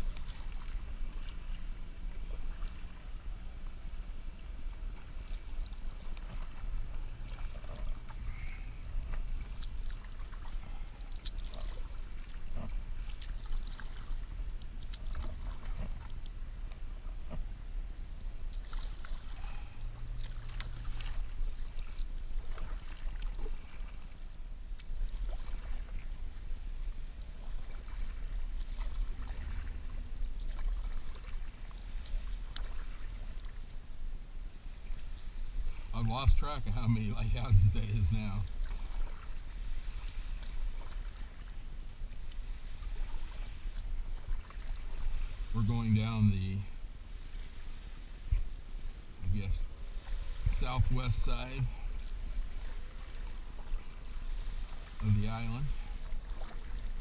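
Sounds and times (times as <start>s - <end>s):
paddle splashing water: 0.0s - 57.0s
steady low rumble: 0.0s - 57.0s.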